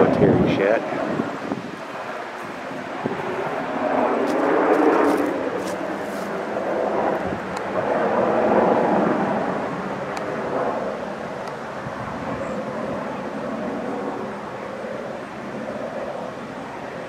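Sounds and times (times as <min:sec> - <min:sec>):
helicopter flying overhead: 0:00.0 - 0:17.0.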